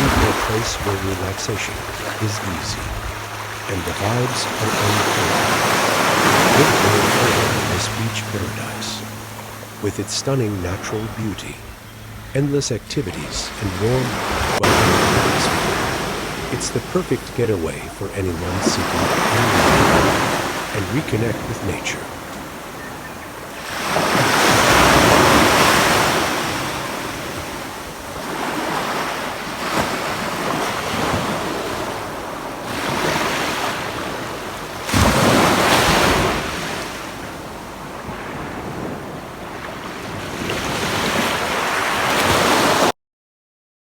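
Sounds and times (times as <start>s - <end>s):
ocean waves breaking on a beach: 0.0s - 42.9s.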